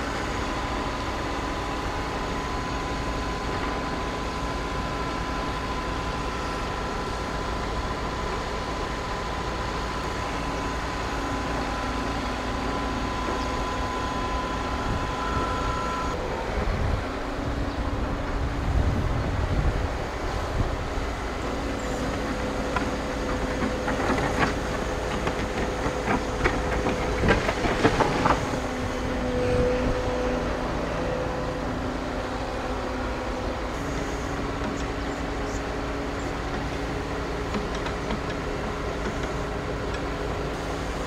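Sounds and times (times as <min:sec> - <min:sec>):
construction machinery running: 0:00.0 - 0:41.0.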